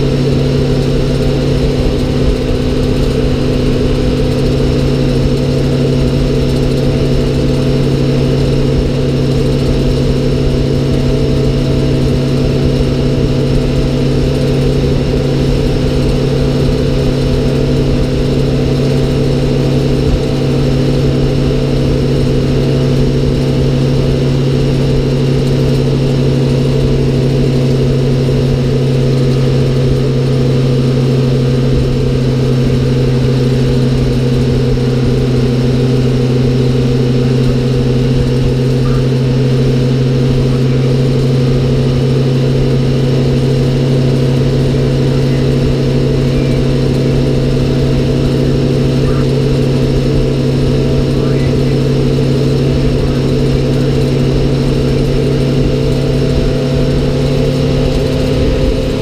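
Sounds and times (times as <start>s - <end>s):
road and wind rumble: 0.0s - 59.0s
truck engine droning: 0.0s - 59.0s.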